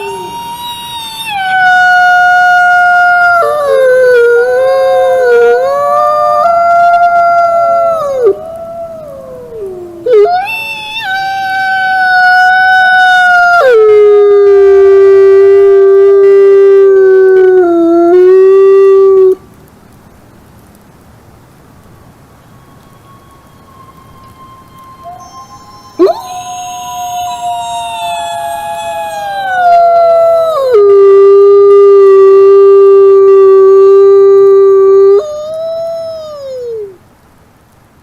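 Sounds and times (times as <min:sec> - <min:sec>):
wolves howling: 0:00.0 - 0:16.4, 0:22.7 - 0:37.0.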